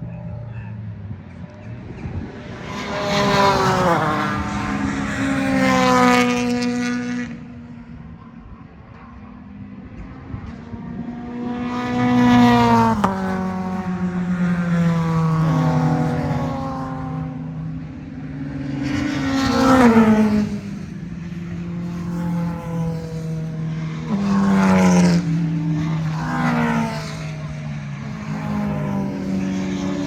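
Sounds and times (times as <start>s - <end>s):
racing cars passing: 0.0s - 30.0s.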